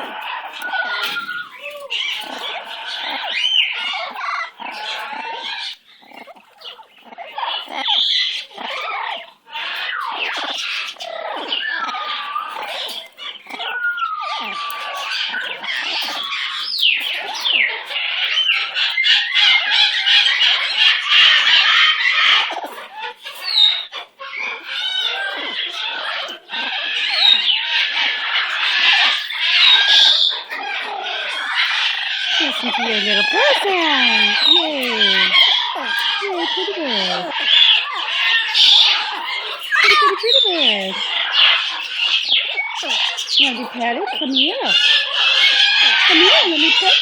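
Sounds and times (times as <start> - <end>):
parrot chattering and squawking: 0.0 - 47.0.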